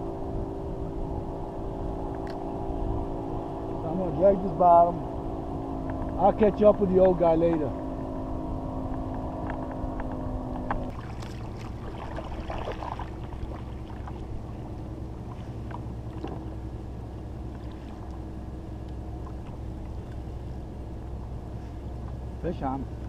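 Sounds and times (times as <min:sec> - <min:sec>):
multi-tone hum: 0:00.0 - 0:23.0
wind and water rumble: 0:00.0 - 0:23.0.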